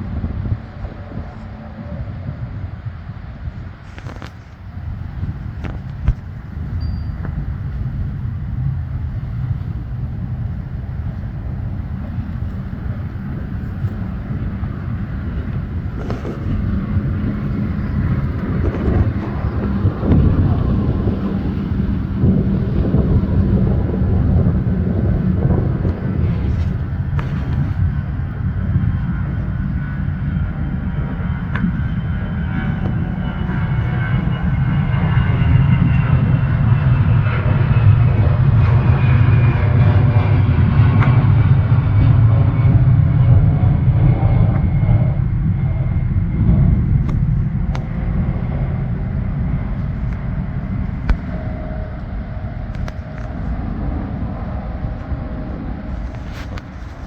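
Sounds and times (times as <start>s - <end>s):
jet airplane rumble: 0.0s - 57.0s.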